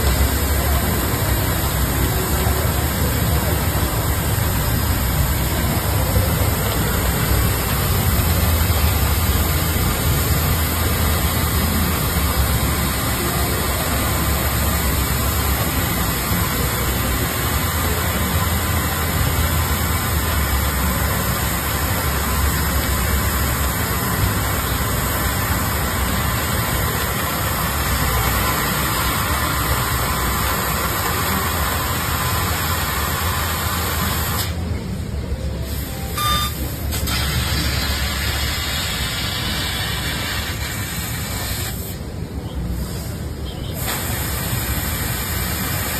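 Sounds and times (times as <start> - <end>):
laser cutter hissing: 0.0 - 34.7, 35.6 - 45.9.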